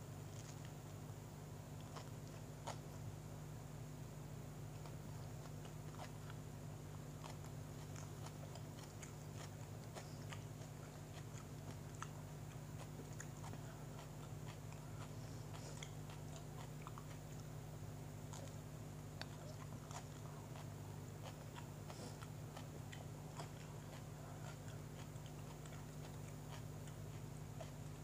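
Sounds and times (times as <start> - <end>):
steady low hum: 0.0 - 28.0
person chewing a sandwich: 0.2 - 3.3, 4.6 - 28.0
mouth clicks and crunches: 0.3 - 1.0, 1.6 - 3.1, 4.7 - 28.0.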